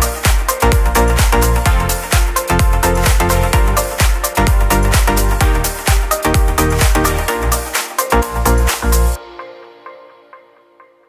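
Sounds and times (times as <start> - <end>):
electronic music with heavy beat: 0.0 - 11.0.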